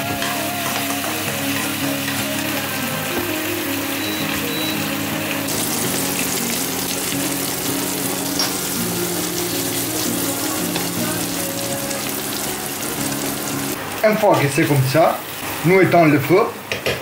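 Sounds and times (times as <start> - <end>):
soft background music: 0.0 - 13.8
food sizzling in frying pan: 0.0 - 17.0.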